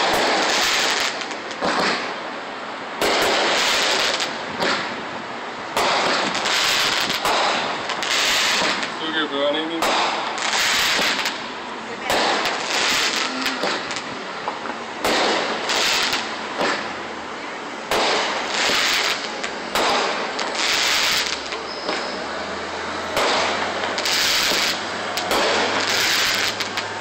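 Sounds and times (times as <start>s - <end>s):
fireworks bursting with bangs: 0.0s - 27.0s
fireworks crackling: 0.0s - 27.0s.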